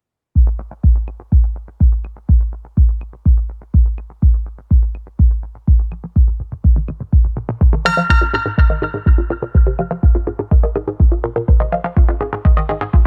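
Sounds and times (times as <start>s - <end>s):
electronic dance music: 0.5s - 13.0s.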